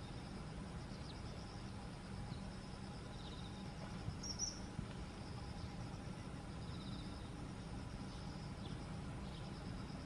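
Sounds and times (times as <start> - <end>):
high insect buzz: 0.0 - 10.0.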